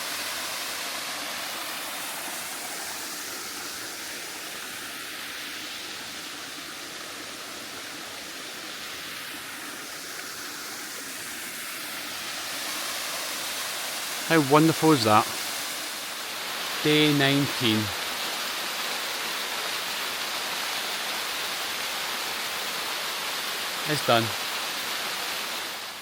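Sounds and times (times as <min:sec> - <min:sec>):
small waterfall splashing: 0:00.0 - 0:26.0.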